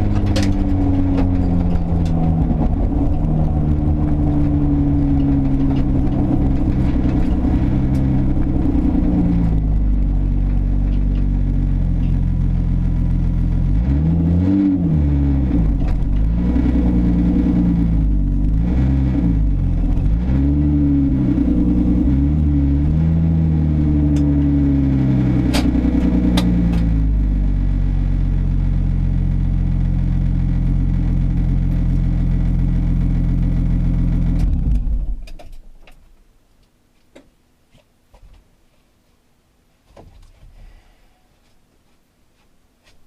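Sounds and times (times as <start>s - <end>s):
loud car engine revving: 0.0s - 35.0s.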